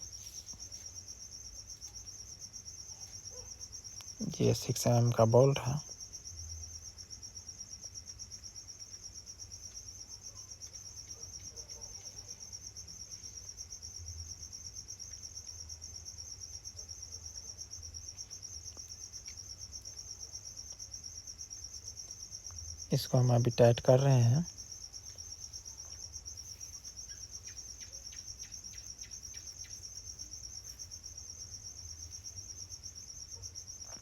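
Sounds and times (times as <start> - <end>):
cricket trilling: 0.0 - 34.0.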